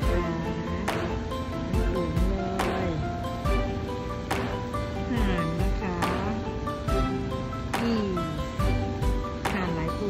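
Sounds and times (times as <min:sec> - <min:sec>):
background music with soft beat: 0:00.0 - 0:10.0.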